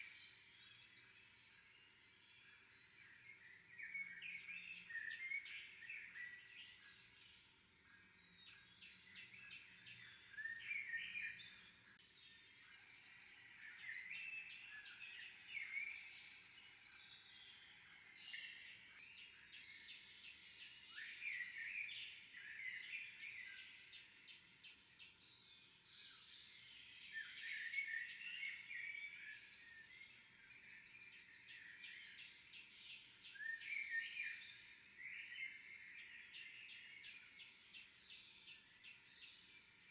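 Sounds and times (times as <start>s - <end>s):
songbirds singing trills: 0.0s - 39.9s.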